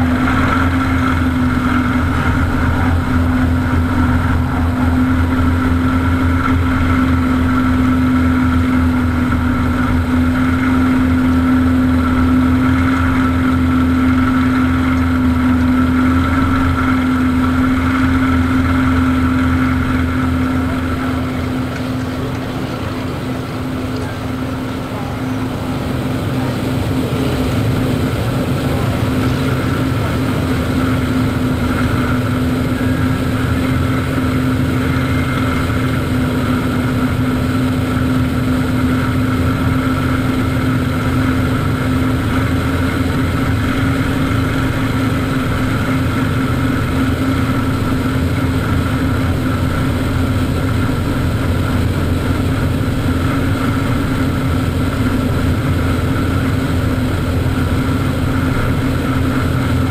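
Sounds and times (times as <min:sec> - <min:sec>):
airflow noise: 0:00.0 - 0:59.9
piston aircraft engine droning: 0:00.0 - 0:59.9.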